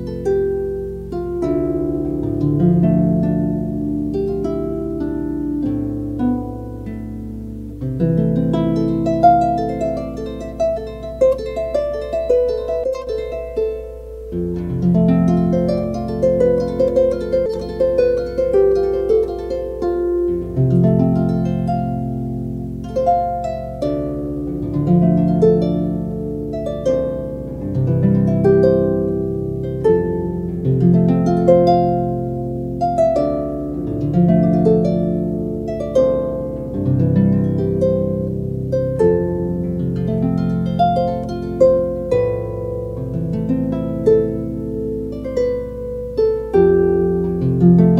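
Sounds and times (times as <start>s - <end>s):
plucked harp melody: 0.0s - 47.9s.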